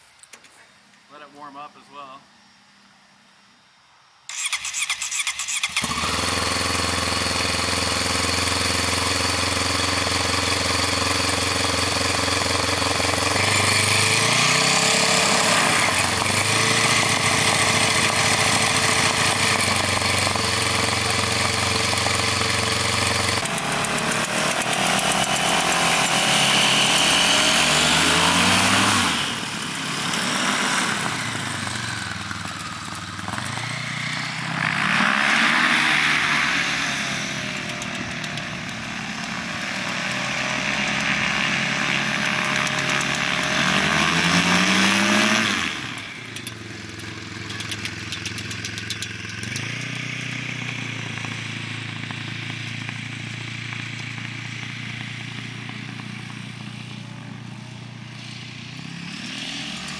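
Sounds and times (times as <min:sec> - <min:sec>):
snowmobile engine running: 0:05.8 - 0:59.9.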